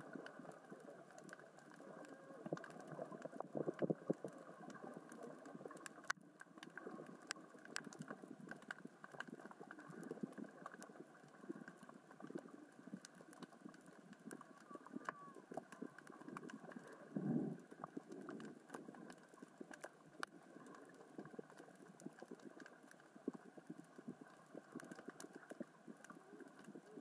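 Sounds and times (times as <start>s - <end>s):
rocks clicking underwater: 0.0s - 27.0s.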